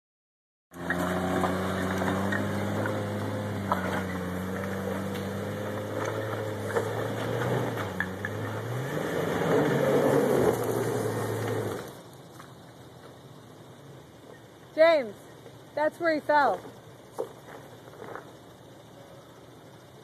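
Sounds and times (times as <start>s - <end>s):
atv engine running: 0.7s - 20.0s.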